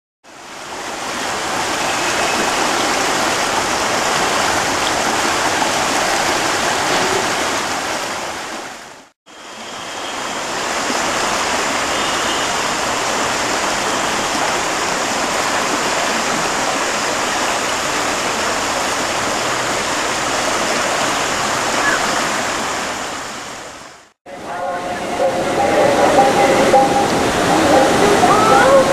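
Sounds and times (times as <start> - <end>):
river water rushing: 0.3 - 28.9.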